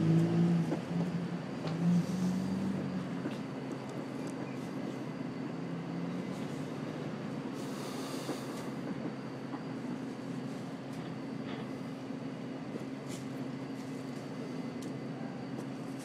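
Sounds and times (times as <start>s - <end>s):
city background rumble: 0.0s - 16.0s.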